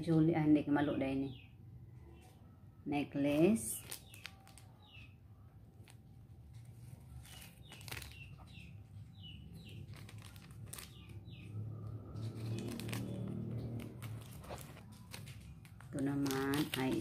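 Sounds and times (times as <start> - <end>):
small bird chirping: 0.8 - 17.0
plastic bag crinkling: 3.3 - 17.0.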